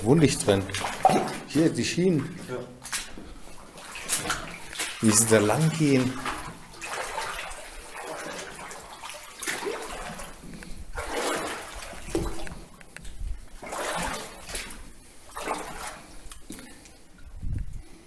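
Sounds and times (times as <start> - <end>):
footsteps splashing in shallow water: 0.0 - 17.0.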